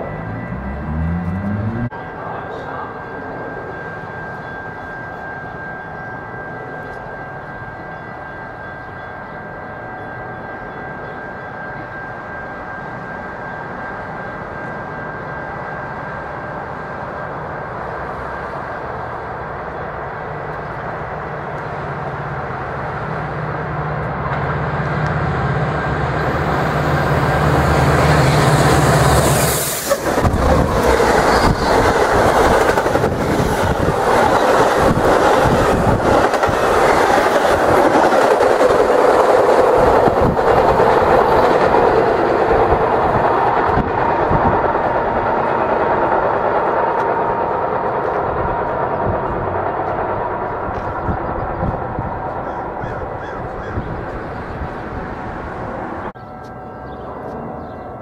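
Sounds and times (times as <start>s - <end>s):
diesel locomotive engine hum: 0.0s - 58.0s.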